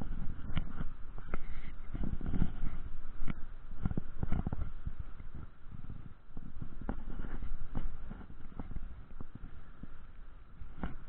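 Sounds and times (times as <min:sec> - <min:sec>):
camera handling rumble and rustle: 0:00.0 - 0:10.0, 0:10.6 - 0:11.0.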